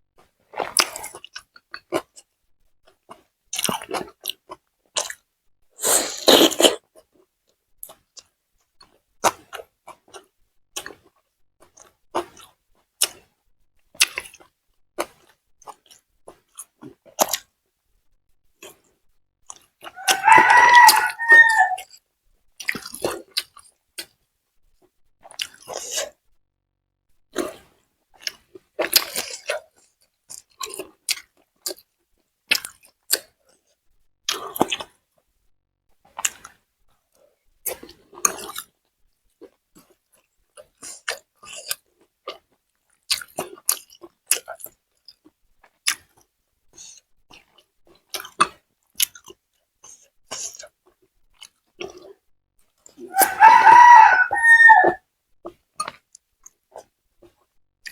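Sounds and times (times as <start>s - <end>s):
chewing and crunching food: 0.2s - 26.4s, 27.2s - 57.9s.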